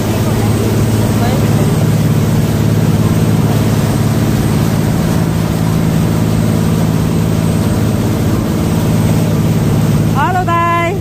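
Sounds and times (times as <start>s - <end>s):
boat engine droning: 0.0s - 11.0s
rushing water: 0.0s - 11.0s.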